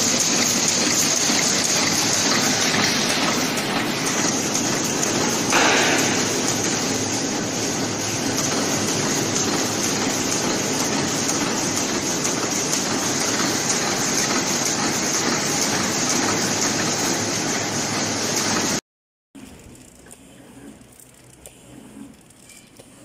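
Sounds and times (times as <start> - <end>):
packing machine running: 0.0 - 18.8.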